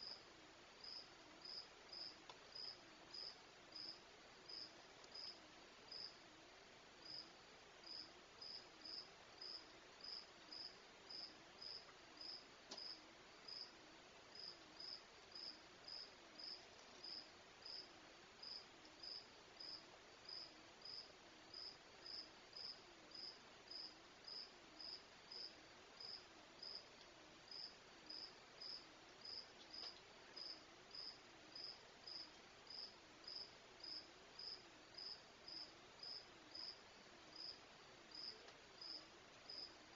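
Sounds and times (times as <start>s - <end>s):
crickets chirping: 0.0s - 0.2s, 0.8s - 6.2s, 7.0s - 13.7s, 14.3s - 26.9s, 27.5s - 39.8s
faint low hum: 0.0s - 39.9s.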